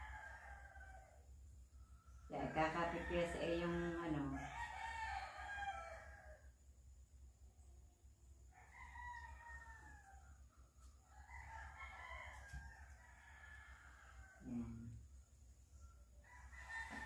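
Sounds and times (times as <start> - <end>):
faint rooster crowing: 0.0 - 6.8, 8.4 - 17.0.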